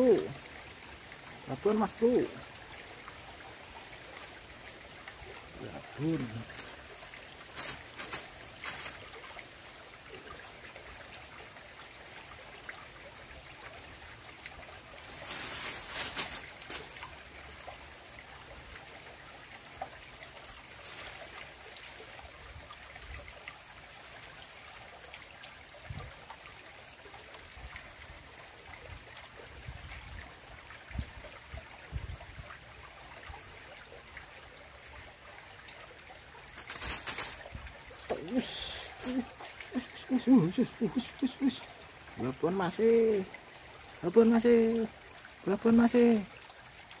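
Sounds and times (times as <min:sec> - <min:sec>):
stream trickling over rocks: 0:00.0 - 0:47.0.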